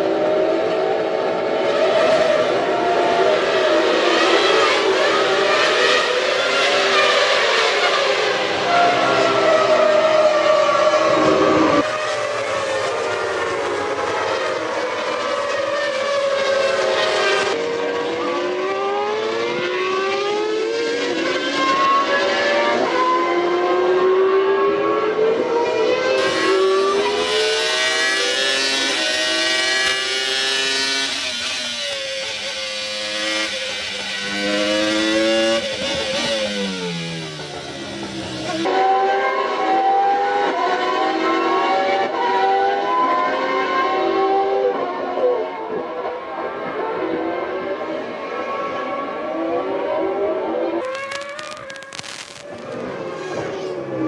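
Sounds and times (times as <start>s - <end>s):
racing car engines passing at high revs: 0.0s - 54.0s.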